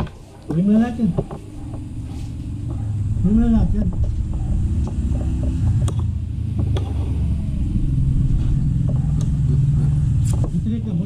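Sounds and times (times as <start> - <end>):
low engine-like rumble: 0.9 - 11.0.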